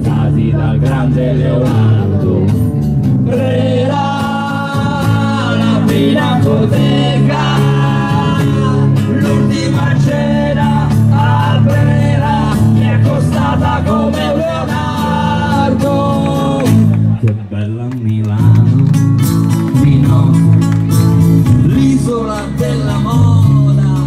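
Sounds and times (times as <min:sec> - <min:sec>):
drums: 0:00.0 - 0:17.4, 0:18.3 - 0:24.0
electric bass: 0:00.0 - 0:24.0.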